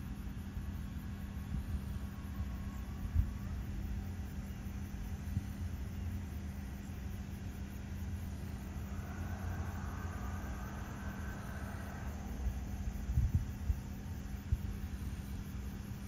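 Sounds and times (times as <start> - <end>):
ship engine drone: 0.3 - 16.0.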